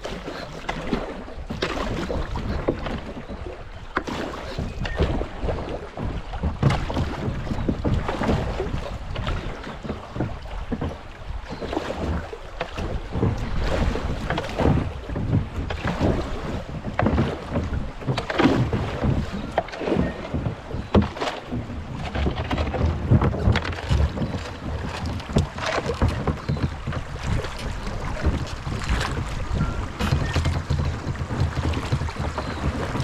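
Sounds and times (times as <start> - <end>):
paddle splashing water: 0.0 - 33.0
wind buffeting microphone: 0.8 - 33.0.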